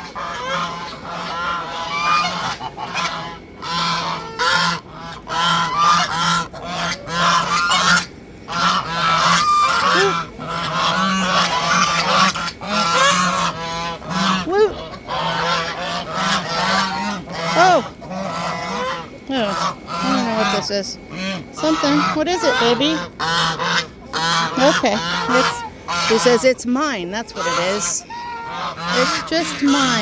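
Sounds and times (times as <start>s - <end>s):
geese honking: 0.0s - 30.0s.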